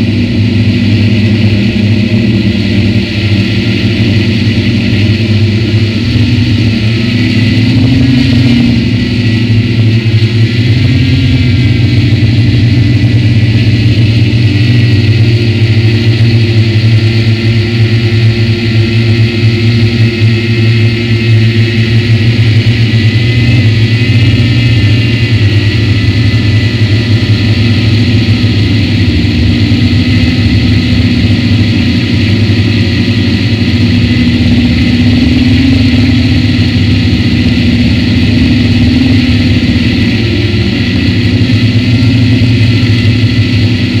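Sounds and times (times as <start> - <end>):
drone motors and propellers buzzing: 0.0 - 44.0.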